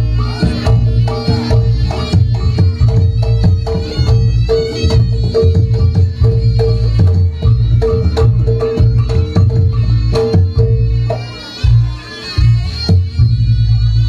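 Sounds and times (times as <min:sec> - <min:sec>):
struck metal percussion: 0:00.0 - 0:11.9
drums: 0:00.0 - 0:14.0.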